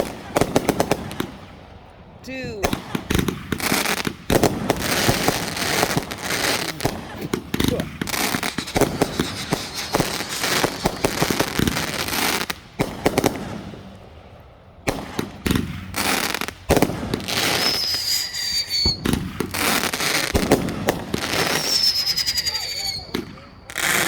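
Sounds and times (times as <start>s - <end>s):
fireworks crackling and banging: 0.0s - 1.7s, 2.3s - 24.0s
whistling firework: 2.7s - 13.8s, 14.8s - 24.0s.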